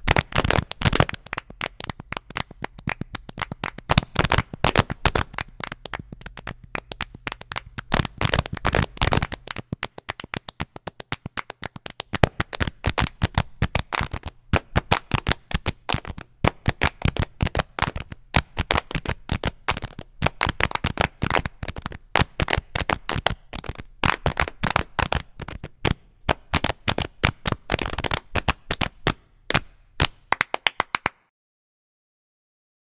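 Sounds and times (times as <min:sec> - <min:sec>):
hand claps: 0:00.0 - 0:31.3.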